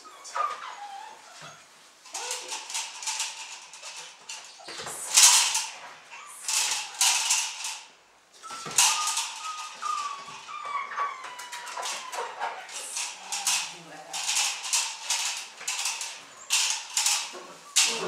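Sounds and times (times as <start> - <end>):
puppy whining: 0.0 - 7.8, 8.4 - 18.0
scraping on concrete floor: 0.2 - 18.0.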